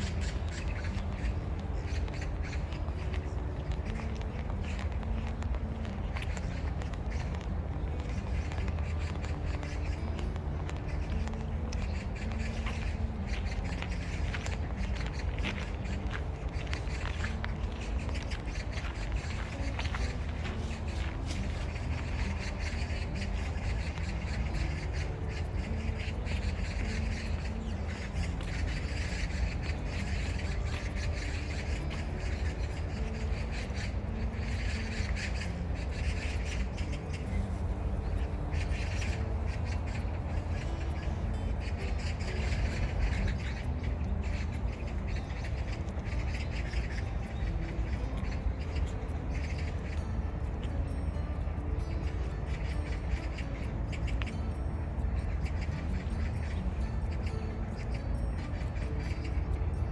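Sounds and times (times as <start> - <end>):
harsh crow-like bird calls: 0.0 - 50.7
low outdoor rumble: 0.0 - 59.9.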